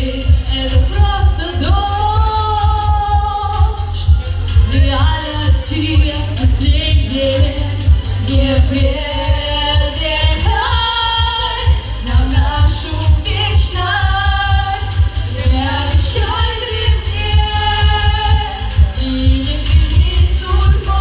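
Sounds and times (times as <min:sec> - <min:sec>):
loud accompaniment with heavy bass: 0:00.0 - 0:21.0
women singing pop song: 0:00.0 - 0:21.0.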